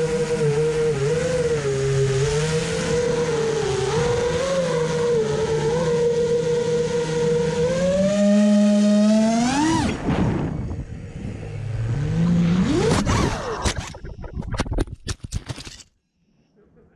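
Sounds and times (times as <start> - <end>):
quadcopter motors whining: 0.0 - 14.4.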